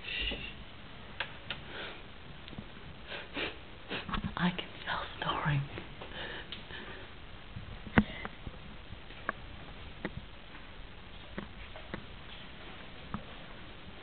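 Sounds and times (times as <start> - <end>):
low steady hiss: 0.0 - 14.0.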